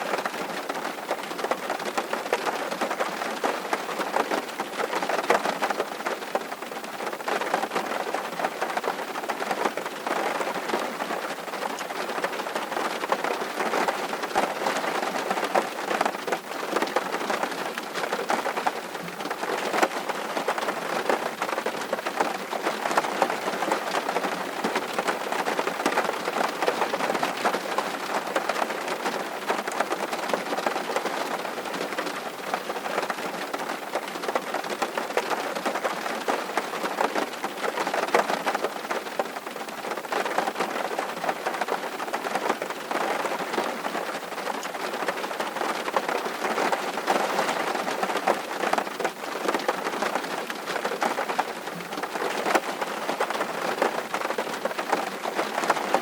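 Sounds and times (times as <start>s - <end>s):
steady rain patter: 0.0s - 56.0s.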